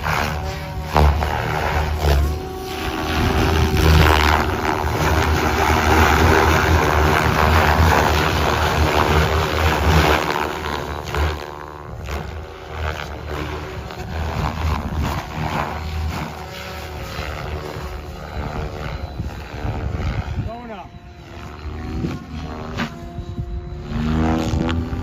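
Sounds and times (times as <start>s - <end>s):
rc helicopter whirring buzz: 0.0s - 25.0s.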